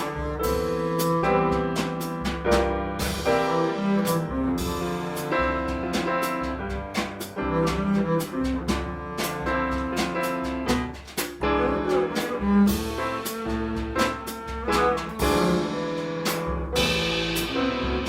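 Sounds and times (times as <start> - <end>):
double bass: 0.0 - 18.0
drum kit: 0.0 - 18.0
jazz combo playing: 0.0 - 18.0.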